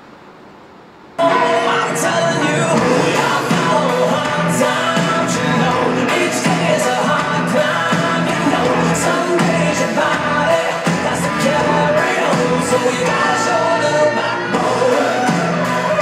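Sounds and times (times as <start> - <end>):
rock song with male singer: 1.2 - 16.0.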